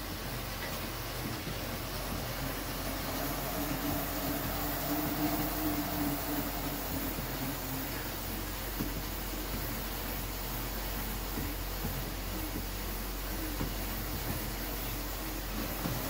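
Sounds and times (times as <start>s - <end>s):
exercise machine flywheel whir: 0.0s - 16.0s
low hum: 0.0s - 16.0s.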